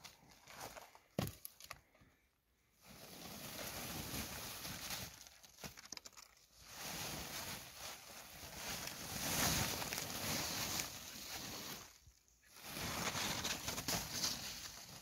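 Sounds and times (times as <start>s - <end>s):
plastic sacks rustling and crackling: 2.8s - 15.0s.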